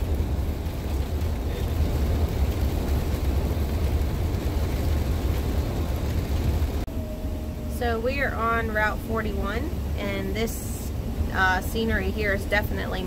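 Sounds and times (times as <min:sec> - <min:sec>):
motorhome engine and road noise: 0:00.0 - 0:13.0.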